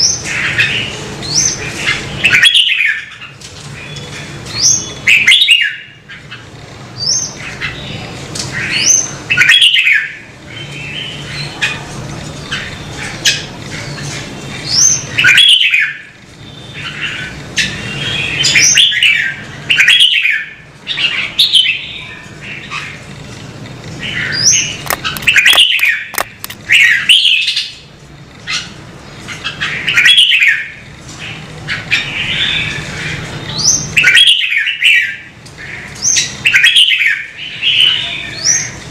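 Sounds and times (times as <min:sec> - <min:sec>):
bird singing warbling phrases: 0:00.0 - 0:23.1, 0:24.0 - 0:38.8.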